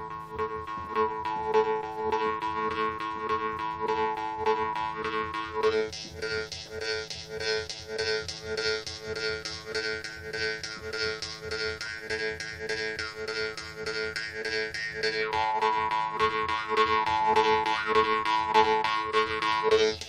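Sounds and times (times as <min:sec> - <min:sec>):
jew's harp twanging: 0:00.6 - 0:20.0.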